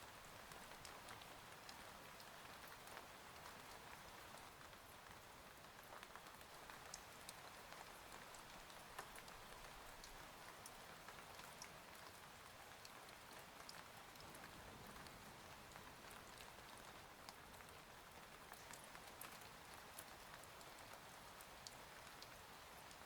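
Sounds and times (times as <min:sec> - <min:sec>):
soft steady rain: 0:00.0 - 0:23.0.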